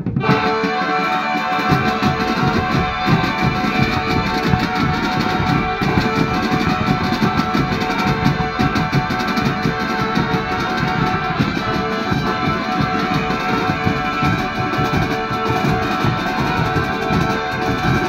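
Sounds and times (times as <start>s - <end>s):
held notes over drumming: 0.0s - 18.0s
snare and bass drums beating: 0.0s - 18.0s.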